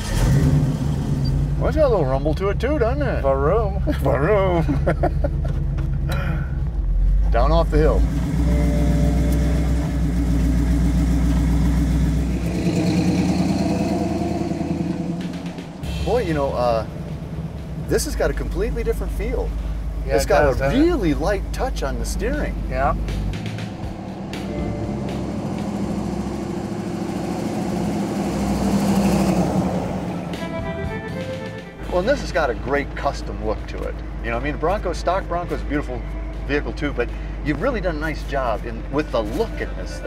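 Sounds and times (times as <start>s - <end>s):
engine running while driving: 0.0s - 40.0s.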